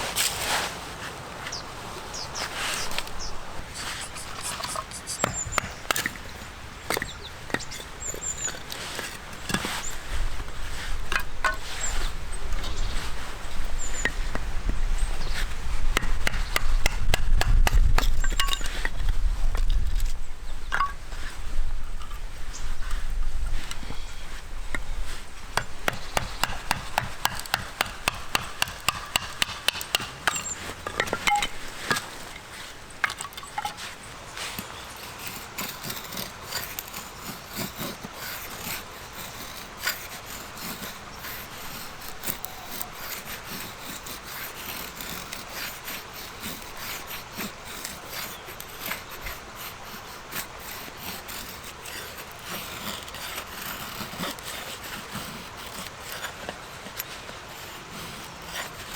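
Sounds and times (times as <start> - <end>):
wood scraping and rubbing: 0.0 - 58.9
hand saw cutting wood: 3.7 - 14.4, 15.0 - 18.9, 24.7 - 58.9.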